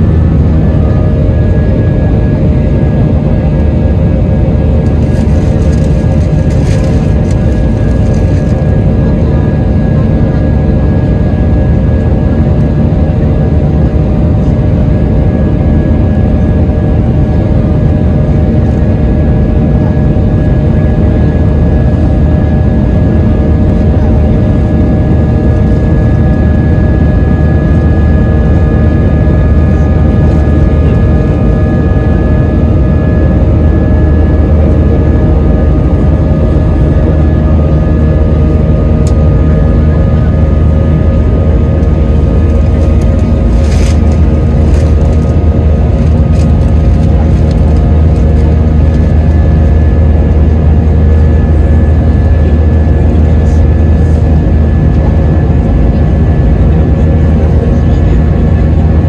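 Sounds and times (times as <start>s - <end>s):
jet engine whining tones: 0.0s - 59.0s
jet engines rumbling in cabin: 0.0s - 59.0s.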